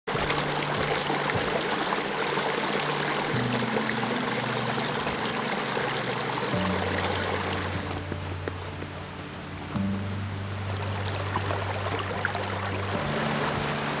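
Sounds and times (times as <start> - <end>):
background music with held notes: 0.1 - 14.0
rushing stream water: 0.1 - 14.0.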